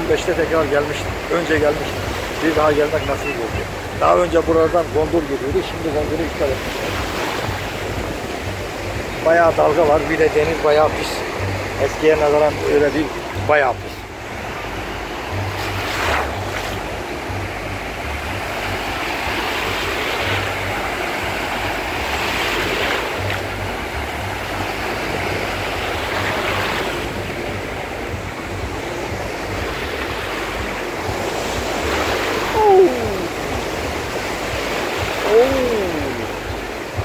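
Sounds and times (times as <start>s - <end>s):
small waves breaking on sand: 0.0s - 37.0s.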